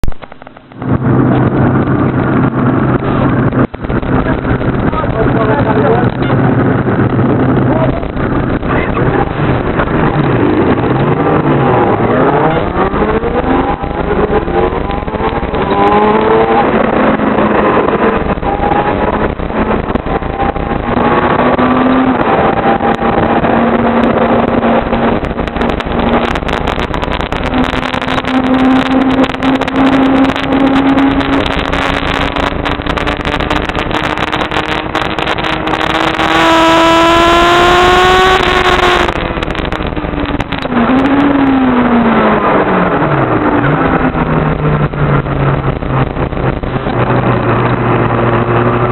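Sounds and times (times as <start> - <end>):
sportbike engine at high revs: 1.3 - 48.9.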